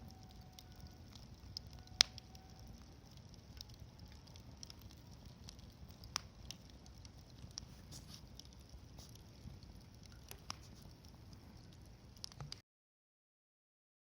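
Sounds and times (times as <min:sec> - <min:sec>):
campfire crackling: 0:00.0 - 0:12.6.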